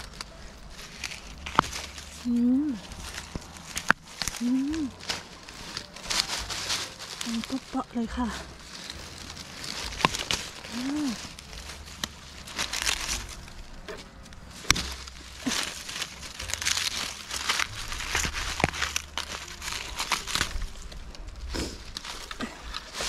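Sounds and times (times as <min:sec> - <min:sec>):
leaves rustling and crumpling: 0:00.0 - 0:23.0
plant stalks snapping: 0:00.0 - 0:23.0.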